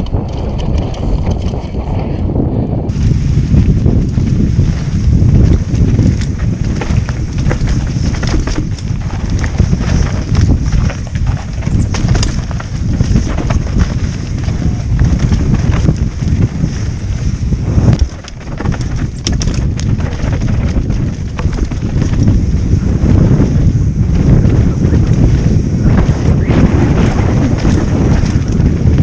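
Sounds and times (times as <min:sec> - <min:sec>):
bike clattering and knocking: 0:00.0 - 0:01.8, 0:04.2 - 0:16.9, 0:17.8 - 0:23.4, 0:24.2 - 0:29.0
tyres rolling over loose dirt: 0:00.0 - 0:02.1, 0:02.9 - 0:29.0
wind rumbling on microphone: 0:00.0 - 0:29.0.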